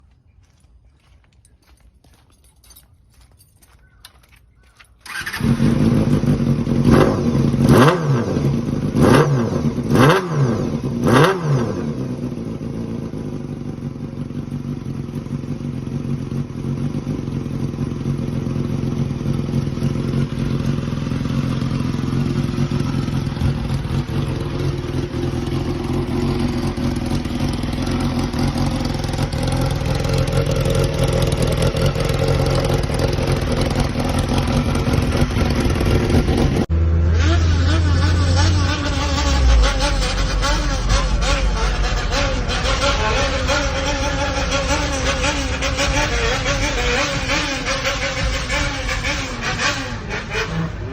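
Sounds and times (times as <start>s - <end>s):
motorcycle engine revving and idling: 3.9s - 50.9s.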